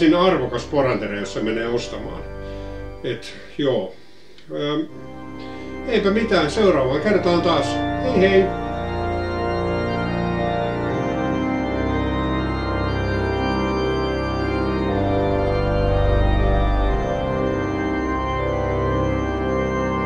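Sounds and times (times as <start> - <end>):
music with held chords: 0.0 - 20.0.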